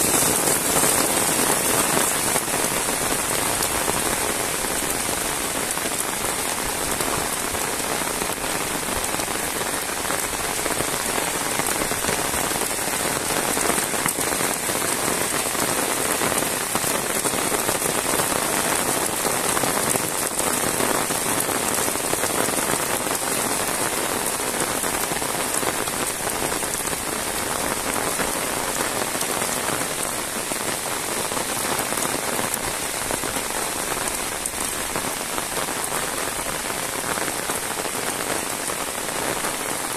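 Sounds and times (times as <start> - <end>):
heavy rain on road: 0.0 - 39.9.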